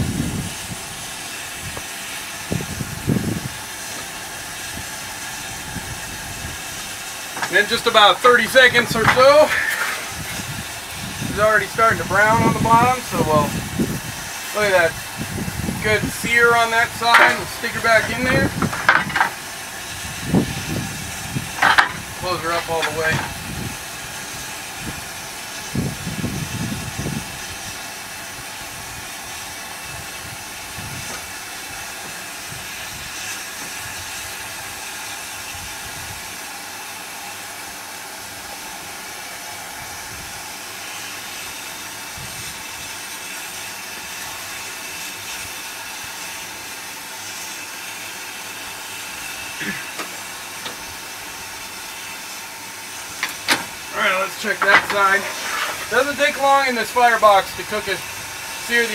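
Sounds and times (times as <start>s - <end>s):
steam hissing: 0.0s - 58.9s.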